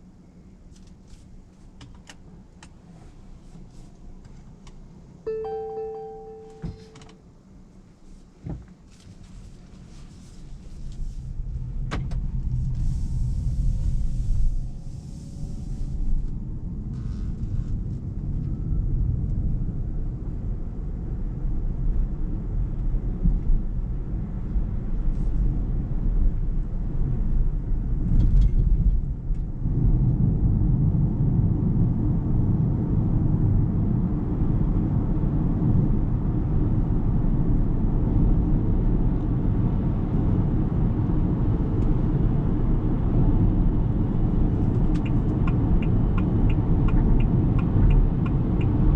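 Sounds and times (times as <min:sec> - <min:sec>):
road and tyre rumble: 0:00.0 - 0:05.2, 0:06.7 - 0:48.9.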